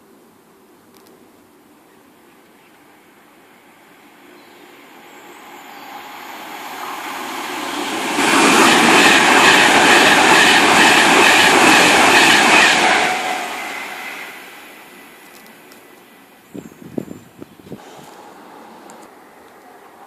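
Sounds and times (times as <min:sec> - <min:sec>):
train passing at speed: 0:02.8 - 0:20.0.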